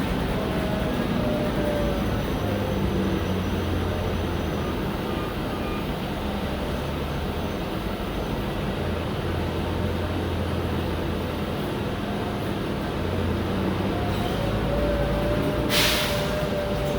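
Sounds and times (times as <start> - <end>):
bus diesel engine drone: 0.0 - 16.9
road noise: 0.0 - 16.9.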